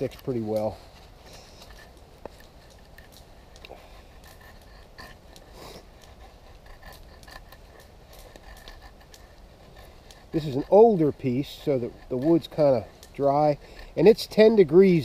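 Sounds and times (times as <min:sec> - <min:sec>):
knife scraping wood: 0:00.0 - 0:15.0.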